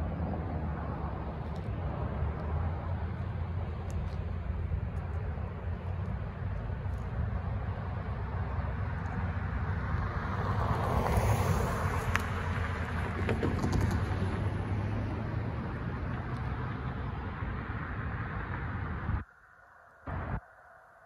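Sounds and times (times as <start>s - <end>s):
cars passing: 0.0s - 19.3s
low traffic rumble: 0.0s - 19.4s.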